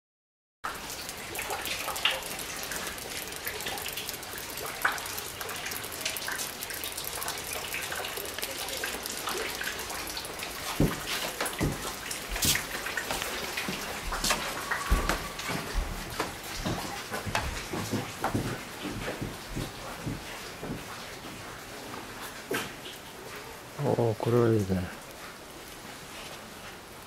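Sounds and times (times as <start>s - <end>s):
water dripping and trickling: 0.6s - 27.0s.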